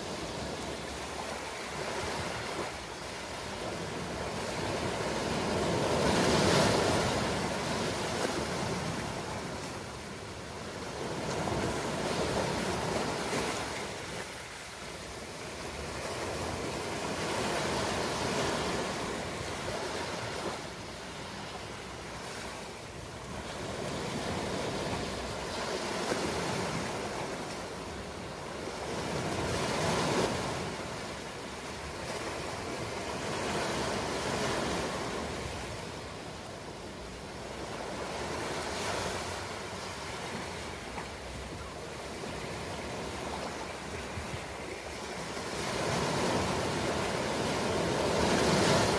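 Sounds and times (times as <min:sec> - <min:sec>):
ocean waves breaking on shore: 0:00.0 - 0:48.9.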